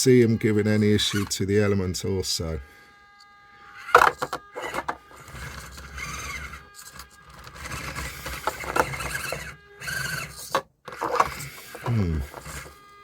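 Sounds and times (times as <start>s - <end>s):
small electric motor whining: 0.1s - 13.0s
tyres scraping and clicking on plastic: 0.5s - 1.8s, 3.1s - 13.0s.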